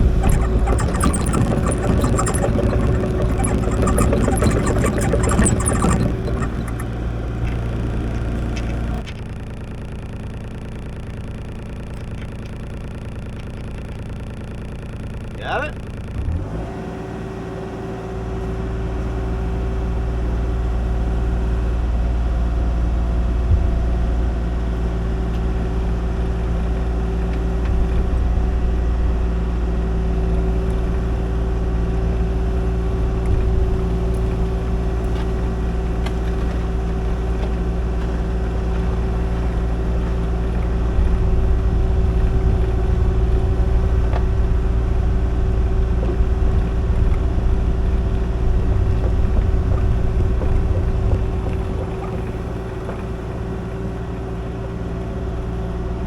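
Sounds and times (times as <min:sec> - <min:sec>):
excavator diesel engine rumbling: 0:00.0 - 0:10.0, 0:18.5 - 0:56.0.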